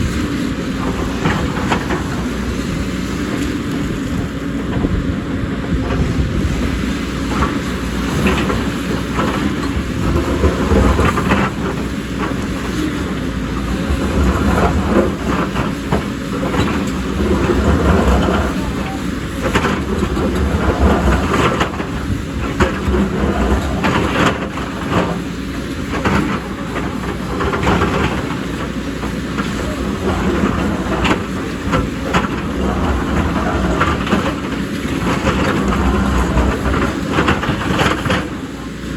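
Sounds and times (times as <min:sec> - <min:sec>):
diesel engine rumbling: 0:00.0 - 0:38.9
excavator bucket clanking on rock: 0:00.0 - 0:38.9.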